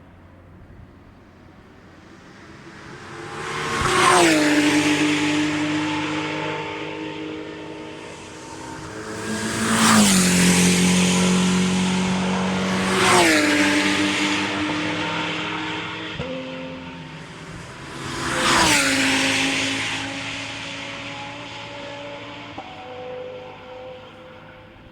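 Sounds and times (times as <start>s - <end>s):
race cars passing at speed: 0.1s - 24.9s
engines running steadily: 1.0s - 24.9s.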